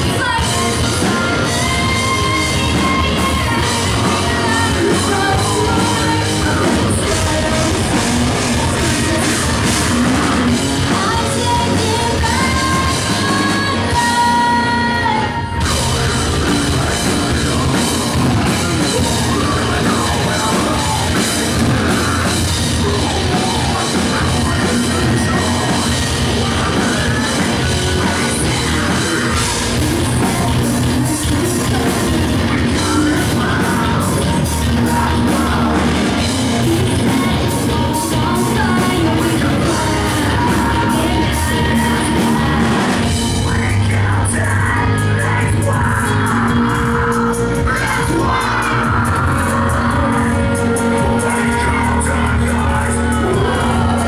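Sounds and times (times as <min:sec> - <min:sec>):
live rock band playing: 0:00.0 - 0:54.0
screamed and sung vocals: 0:00.0 - 0:54.0.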